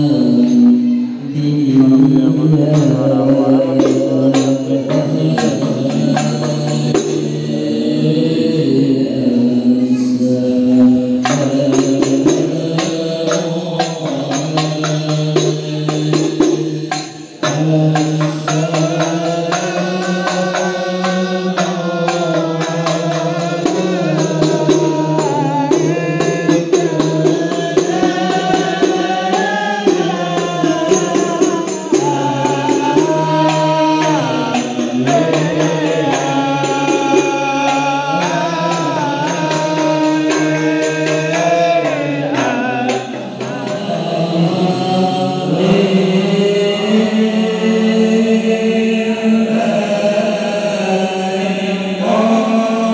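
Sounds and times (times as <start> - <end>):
men chanting devotional song: 0.0 - 52.9.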